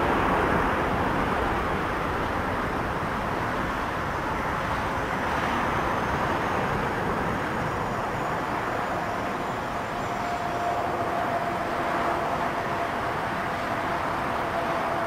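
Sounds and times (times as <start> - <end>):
faint steady whine: 0.0 - 15.0
jet engines rushing at takeoff: 0.0 - 15.0.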